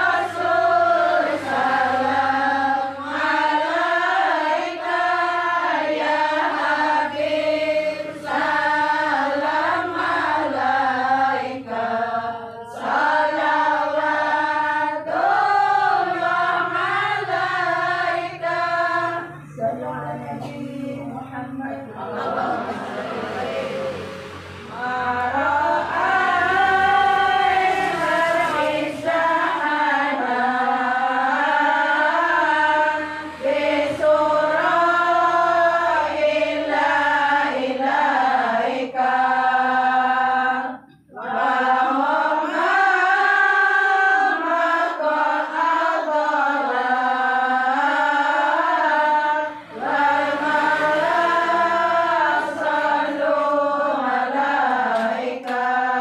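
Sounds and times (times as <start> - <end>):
group of voices chanting: 0.0 - 56.0.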